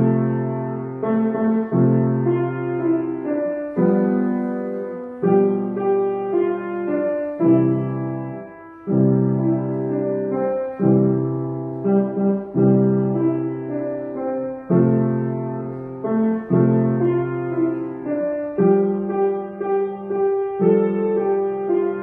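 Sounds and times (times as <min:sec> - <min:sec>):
grand piano chords: 0:00.0 - 0:22.0.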